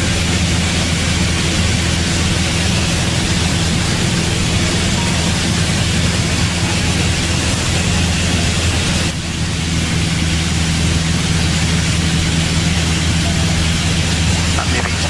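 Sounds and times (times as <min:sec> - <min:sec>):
aircraft engine drone: 0:00.0 - 0:15.0
rush of air noise: 0:00.0 - 0:15.0.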